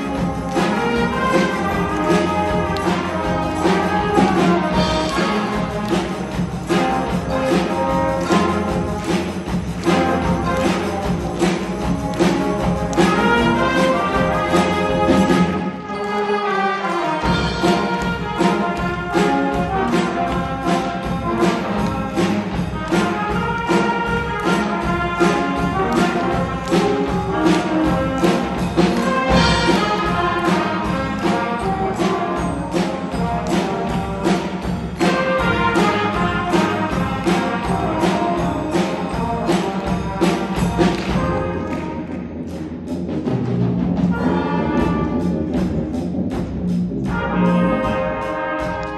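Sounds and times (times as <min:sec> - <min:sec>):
brass band playing: 0:00.0 - 0:48.9
steady percussion beat: 0:00.0 - 0:48.9.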